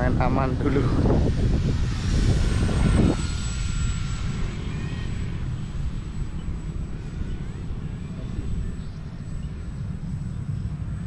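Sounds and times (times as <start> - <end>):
model plane motor whine: 0.0 - 11.0
steady low rumble: 0.0 - 11.0.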